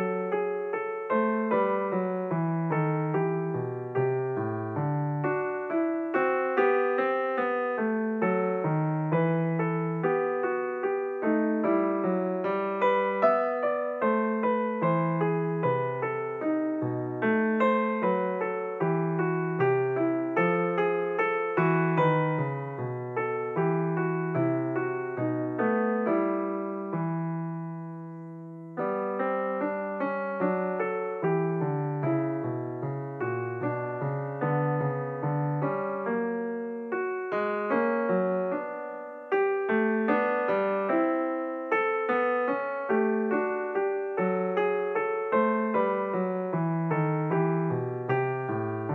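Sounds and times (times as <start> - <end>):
background piano music: 0.0 - 48.9.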